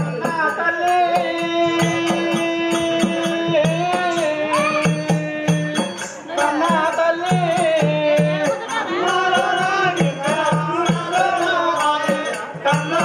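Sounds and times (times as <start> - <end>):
metallic hand percussion ticks: 0.0 - 13.0
steady drum beat: 0.0 - 13.0.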